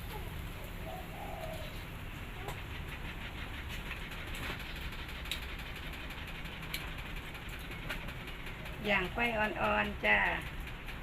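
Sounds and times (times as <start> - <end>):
meat and coals crackling: 0.0 - 11.0.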